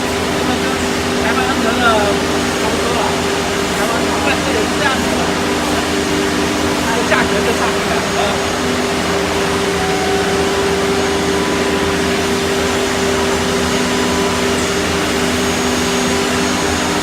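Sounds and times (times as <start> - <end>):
cnc router machining wood: 0.0 - 17.0.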